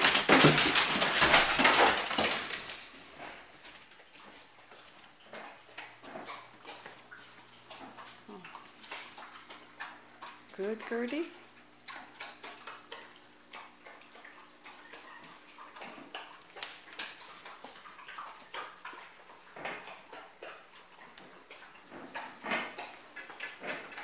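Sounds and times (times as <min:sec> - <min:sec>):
dogs eating from bowls: 0:00.0 - 0:24.0.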